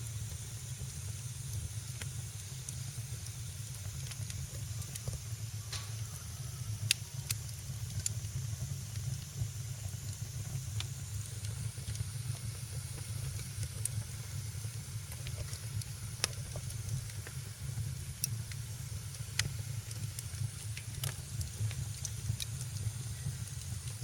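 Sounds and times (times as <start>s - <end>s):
fire rumble and hiss: 0.0s - 24.0s
wood fire popping and snapping: 0.0s - 24.0s.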